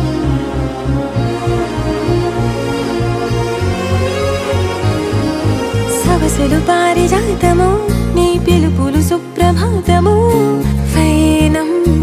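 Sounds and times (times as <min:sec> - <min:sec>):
ornamented melody over bass notes: 0:00.0 - 0:12.0.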